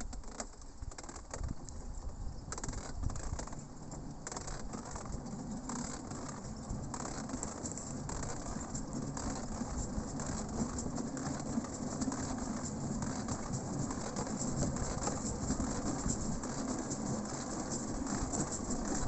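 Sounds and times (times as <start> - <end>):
steel wheels rumbling on rails: 0.0 - 19.0.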